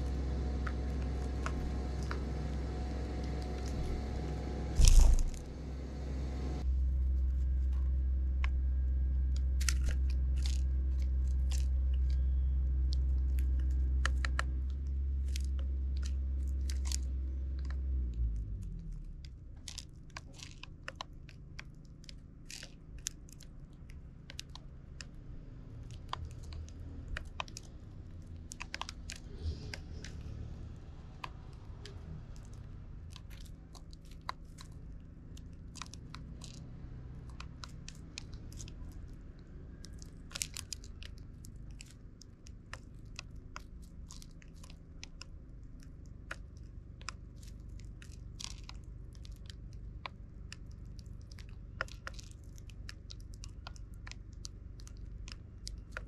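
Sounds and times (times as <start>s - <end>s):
low steady rumble: 0.0s - 56.0s.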